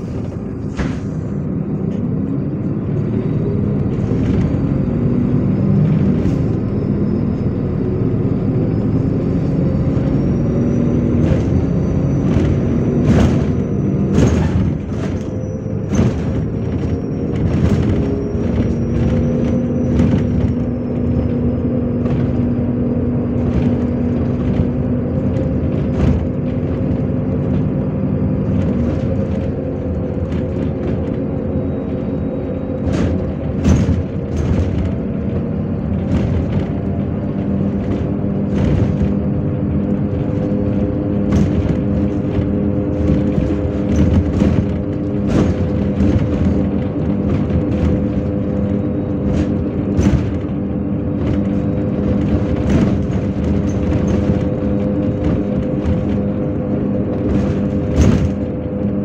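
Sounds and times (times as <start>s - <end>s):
bus body clattering and knocking: 0.0s - 59.0s
bus engine droning: 0.0s - 59.0s.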